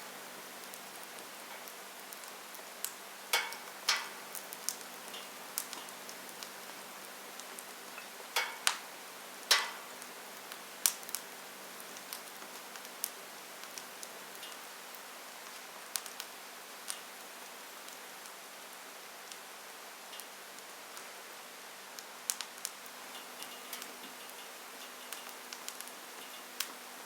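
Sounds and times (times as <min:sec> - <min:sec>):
steady hiss: 0:00.0 - 0:27.0
wood fire crackling and popping: 0:00.1 - 0:18.4, 0:21.9 - 0:27.0.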